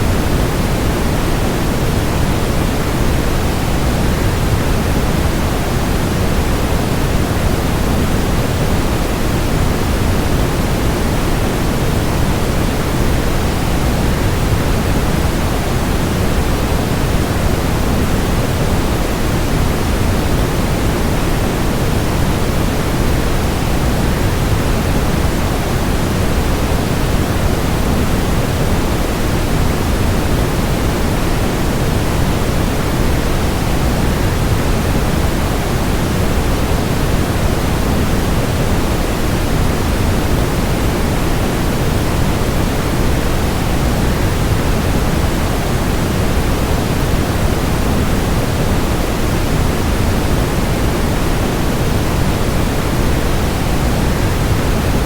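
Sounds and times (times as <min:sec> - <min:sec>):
white noise: 0:00.0 - 0:55.0.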